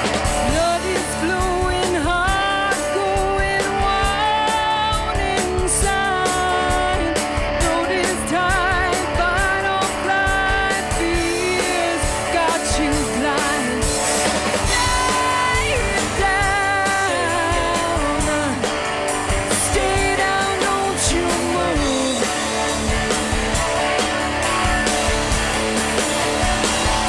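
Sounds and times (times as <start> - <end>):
drums: 0.0 - 27.0
guitar: 0.0 - 27.0
woman singing: 0.4 - 22.4.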